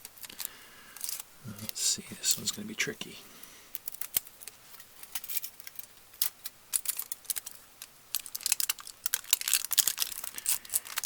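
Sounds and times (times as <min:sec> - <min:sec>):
aluminium foil crinkling: 0:00.0 - 0:02.6, 0:03.7 - 0:11.0.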